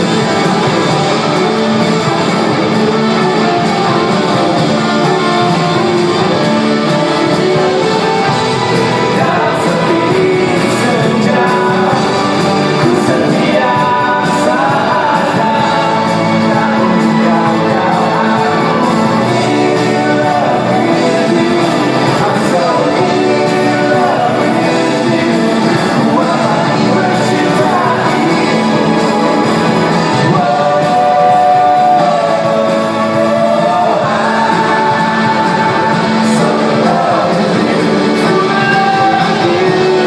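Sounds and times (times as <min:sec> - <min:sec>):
live rock band: 0:00.0 - 0:40.0
person singing: 0:00.0 - 0:40.0.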